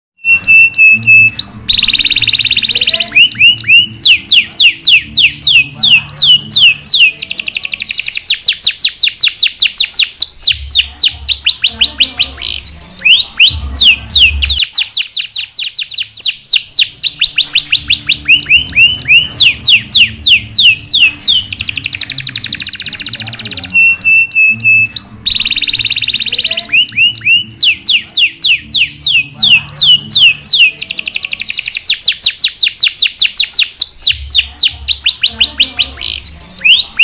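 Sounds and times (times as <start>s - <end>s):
canary singing trills: 0.2s - 37.0s.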